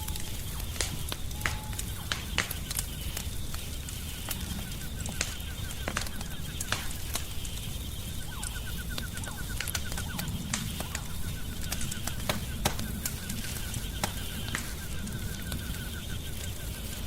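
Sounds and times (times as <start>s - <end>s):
rapid light ticks: 0.0s - 17.0s
wood fire crackling: 0.0s - 17.0s.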